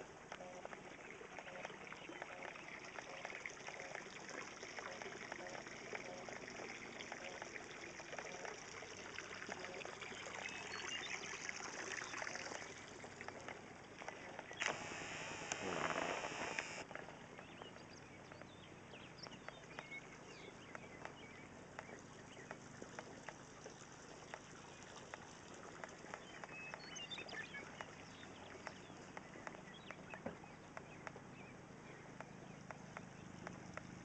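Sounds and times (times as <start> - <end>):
small birds chirping: 4.8 - 34.0.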